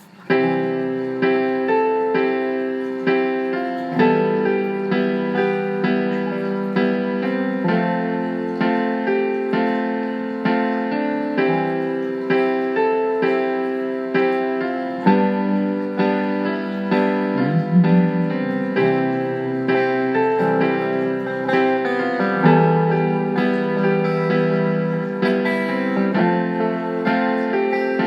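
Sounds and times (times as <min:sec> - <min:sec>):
electric piano chords: 0:00.0 - 0:28.0.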